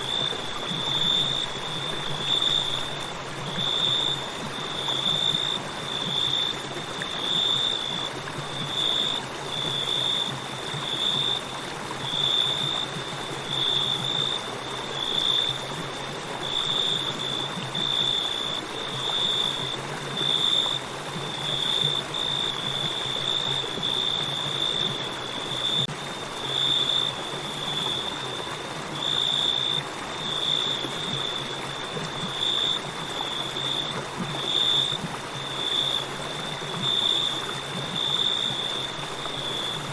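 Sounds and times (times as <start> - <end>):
crickets chirping: 0.0 - 39.9
river flowing: 0.0 - 39.9.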